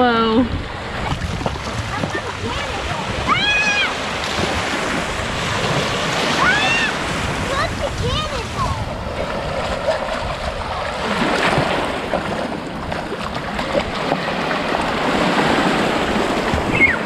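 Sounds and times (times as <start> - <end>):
surf washing over sand: 0.0 - 17.0
wind buffeting microphone: 0.0 - 17.0
children splashing in water: 0.9 - 17.0.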